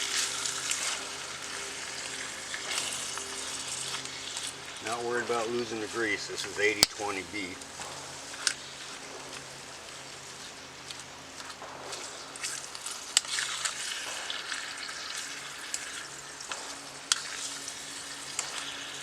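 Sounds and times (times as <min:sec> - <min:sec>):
meat sizzling in a pan: 0:00.0 - 0:19.0.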